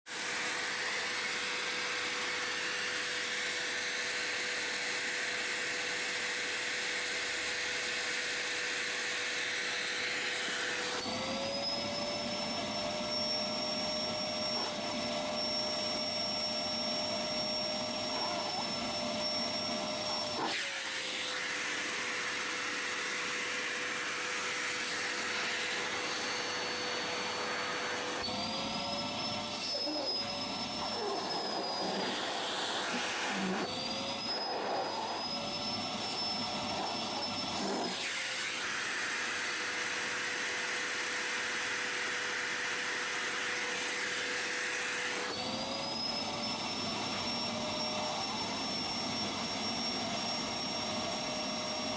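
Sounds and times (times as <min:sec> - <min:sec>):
vacuum cleaner motor whine: 0:00.1 - 0:51.9.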